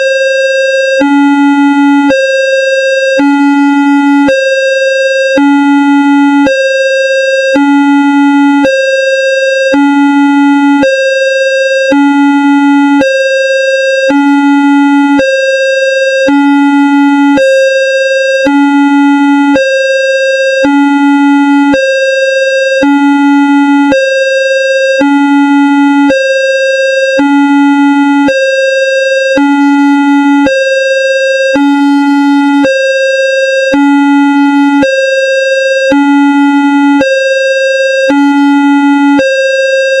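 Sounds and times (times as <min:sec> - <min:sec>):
two-tone level-crossing alarm: 0:00.0 - 0:40.0.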